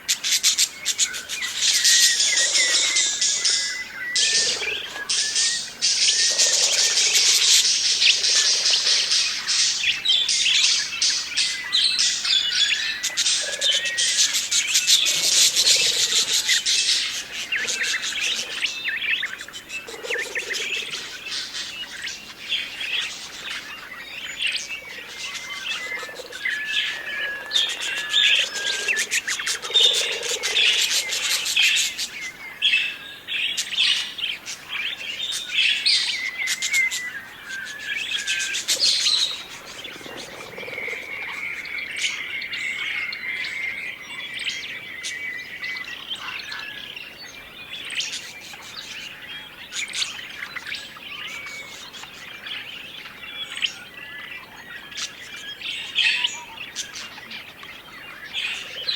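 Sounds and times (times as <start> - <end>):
budgerigars chattering: 0.1 - 58.9.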